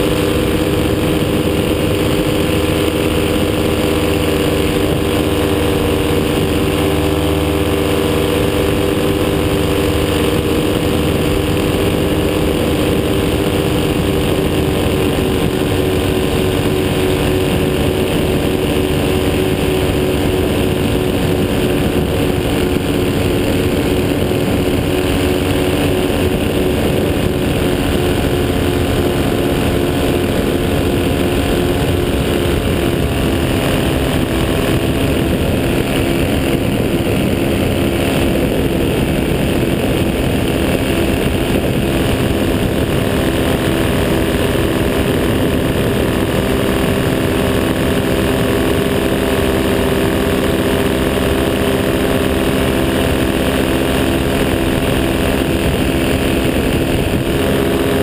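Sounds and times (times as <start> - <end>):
paramotor engine humming: 0.0 - 58.0.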